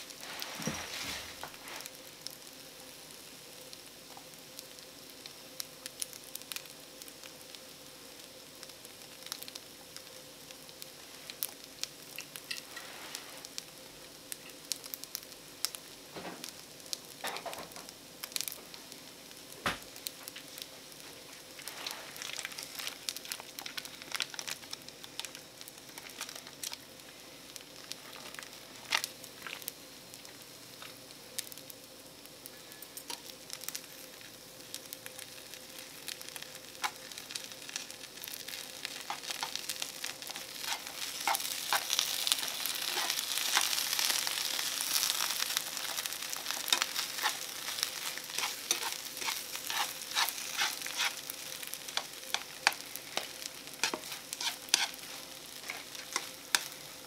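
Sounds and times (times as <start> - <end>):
rice sizzling in a frying pan: 0.0 - 57.0.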